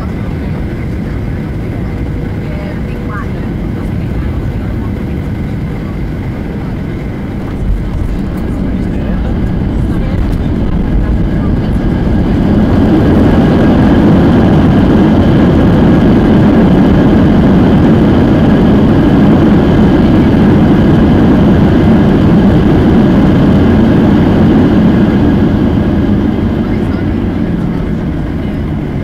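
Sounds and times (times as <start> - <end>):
airplane cabin roar: 0.0 - 29.0.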